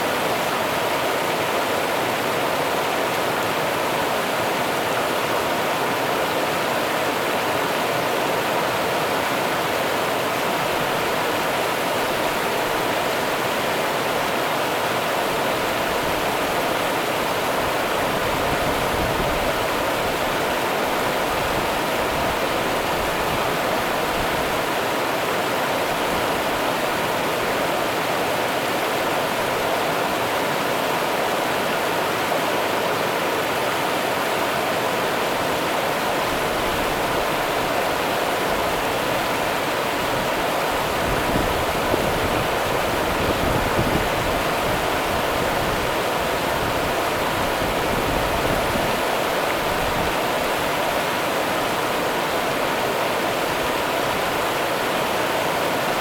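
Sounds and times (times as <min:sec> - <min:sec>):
river water running over rocks: 0:00.0 - 0:56.0.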